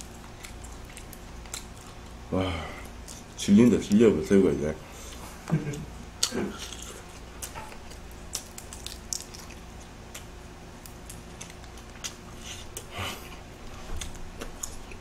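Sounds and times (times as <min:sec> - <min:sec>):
chewing: 0:00.0 - 0:04.0, 0:05.0 - 0:15.0.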